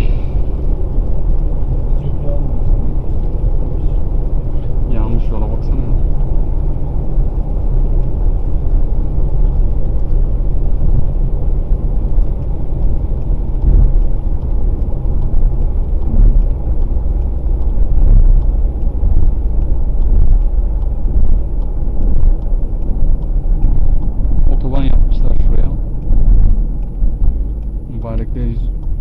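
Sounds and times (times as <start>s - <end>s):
car road and engine rumble: 0.0s - 29.0s
faint ticks: 2.7s - 29.0s.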